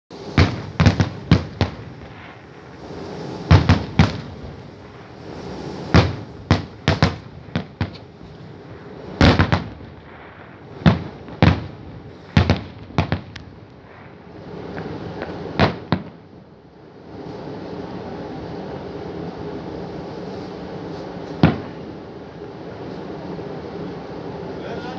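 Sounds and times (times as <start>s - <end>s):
firework bangs: 0.1s - 17.4s, 20.2s - 23.6s.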